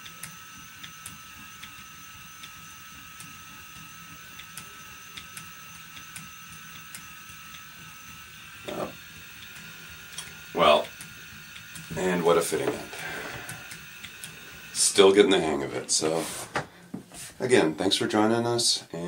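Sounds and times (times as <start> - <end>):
spinning wheel motor whine: 0.0 - 16.2.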